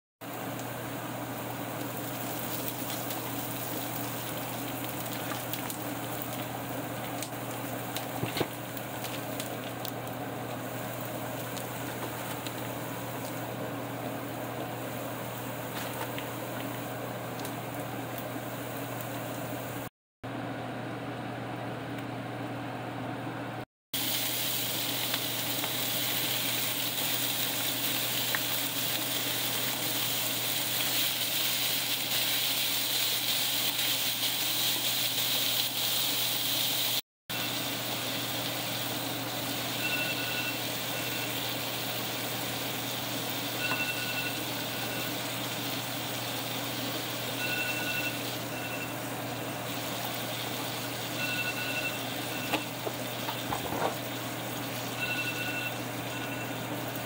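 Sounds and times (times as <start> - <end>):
beef sizzling in a skillet: 0.2 - 13.5, 24.0 - 57.0.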